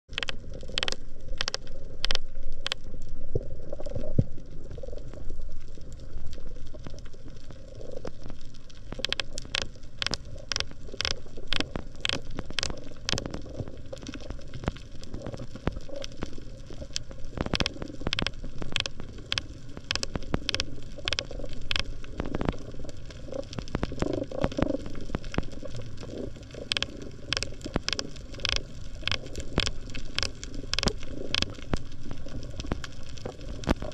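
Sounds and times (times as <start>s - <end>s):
sharp underwater clicks: 0.1s - 3.0s, 6.3s - 33.9s
muffled underwater rumble: 0.1s - 33.9s.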